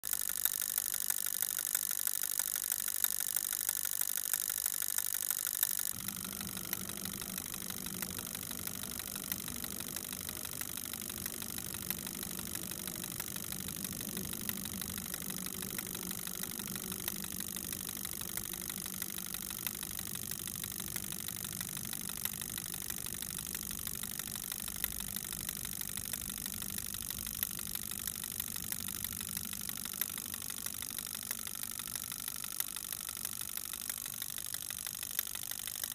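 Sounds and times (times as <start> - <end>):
relays clicking rapidly: 0.0 - 35.9.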